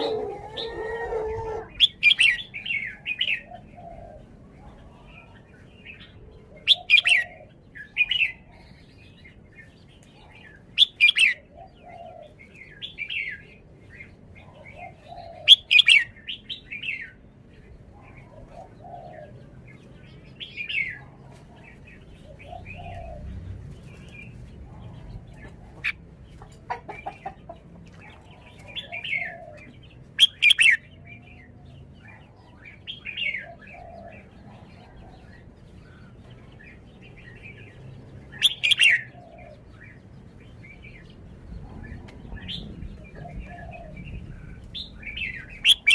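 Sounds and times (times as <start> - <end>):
bird chirping song: 0.0 - 45.9.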